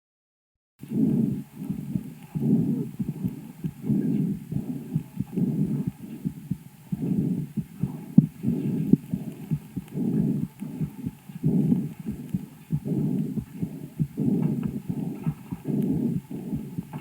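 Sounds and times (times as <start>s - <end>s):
breath sounds through stethoscope: 0.8s - 17.0s.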